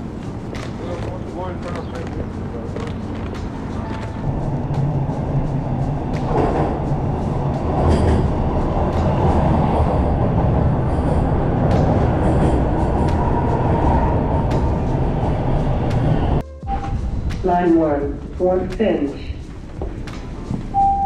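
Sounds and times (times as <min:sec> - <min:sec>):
subway train rail noise: 0:00.0 - 0:21.0.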